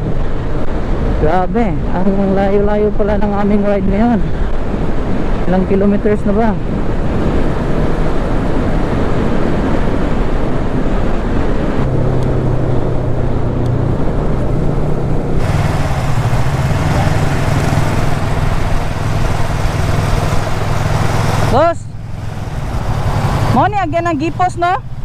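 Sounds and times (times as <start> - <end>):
wind noise on microphone: 0.0 - 25.0
motorcycle engine hum: 2.2 - 25.0.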